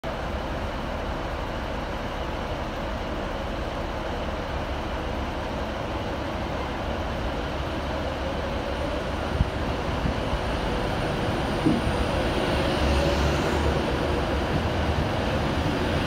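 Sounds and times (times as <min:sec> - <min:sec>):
electric train rumbling in: 0:00.0 - 0:16.0.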